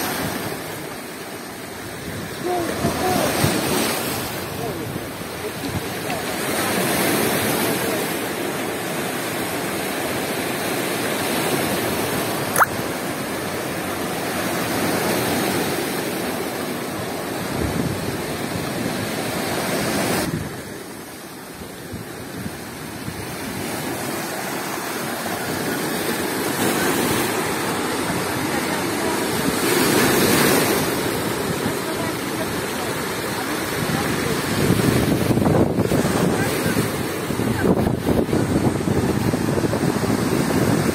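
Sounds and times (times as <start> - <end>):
waves breaking on rocky shore: 0.0 - 40.9.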